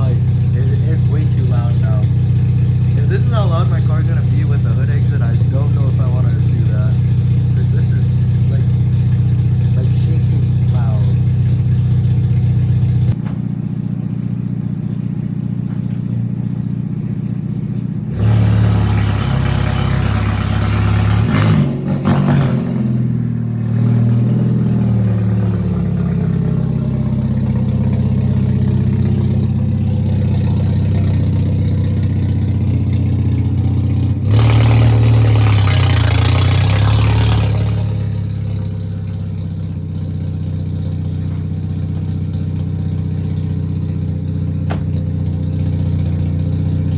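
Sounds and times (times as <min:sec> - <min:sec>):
loud car engine idling and revving: 0:00.0 - 0:46.9.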